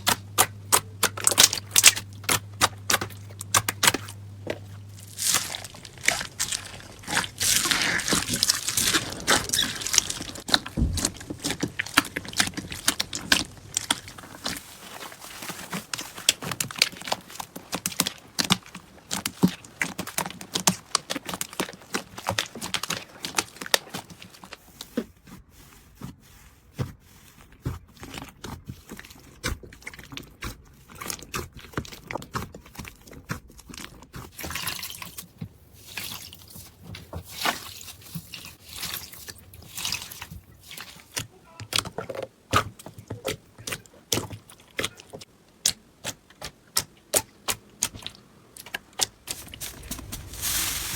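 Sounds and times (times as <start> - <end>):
slime squelching and popping: 0.0 - 24.6, 27.8 - 50.9.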